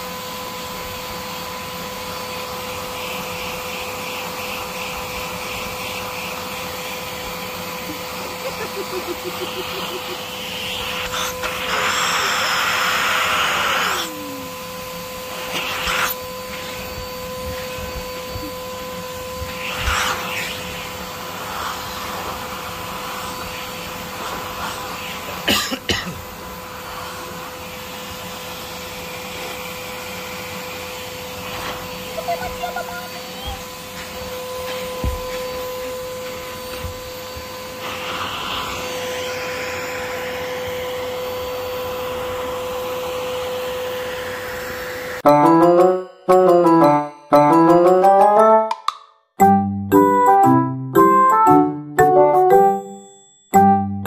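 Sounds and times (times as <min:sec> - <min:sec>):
vacuum cleaner running: 0:00.0 - 0:48.1.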